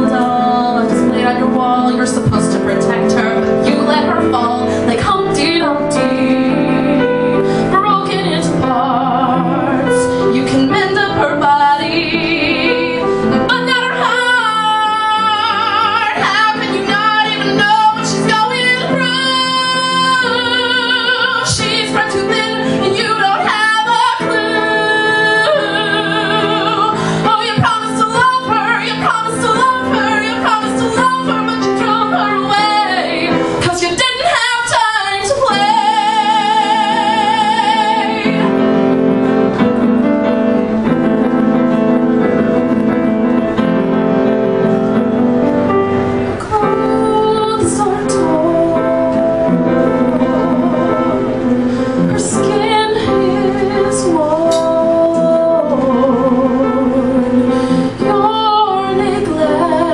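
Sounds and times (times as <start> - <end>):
woman singing: 0.0 - 39.0, 46.4 - 59.9
instrumental accompaniment: 0.0 - 59.9.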